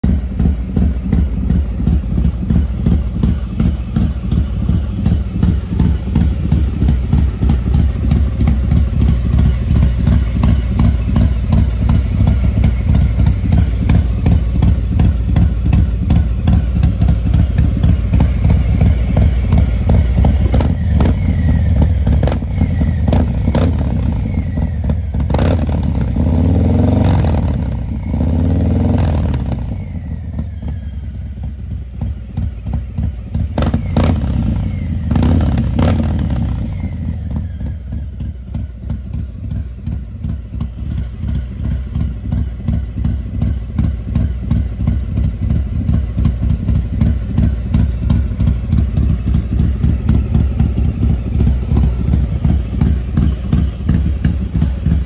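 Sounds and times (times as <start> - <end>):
motorcycle engine idling: 0.0 - 55.0
motorcycle throttle blips: 0.2 - 55.0.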